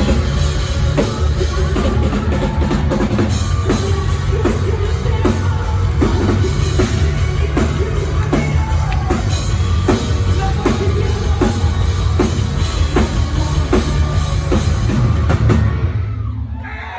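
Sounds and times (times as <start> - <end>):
live rock band playing: 0.0 - 16.2
drums hitting a steady beat: 0.0 - 16.6.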